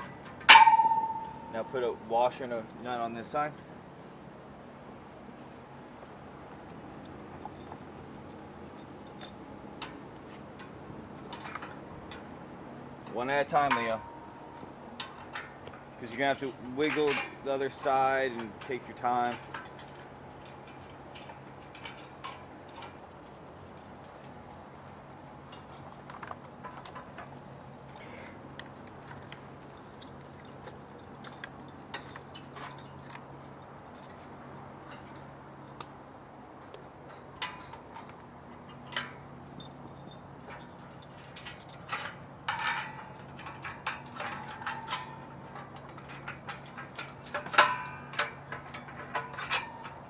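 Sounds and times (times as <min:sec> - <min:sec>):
metallic clinks of bolts and nuts: 0:00.0 - 0:04.1, 0:06.0 - 0:12.3, 0:13.0 - 0:36.0, 0:37.0 - 0:50.0.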